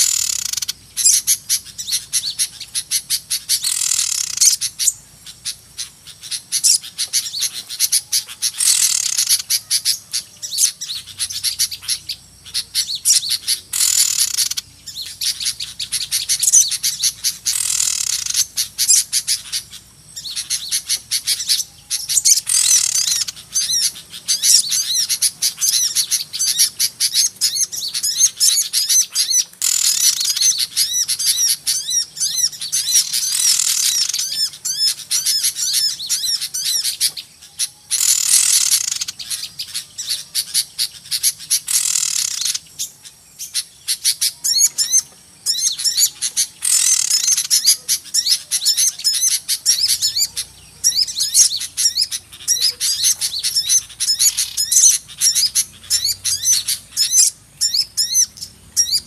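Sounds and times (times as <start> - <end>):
flock of songbirds chirping: 0.0 - 59.0.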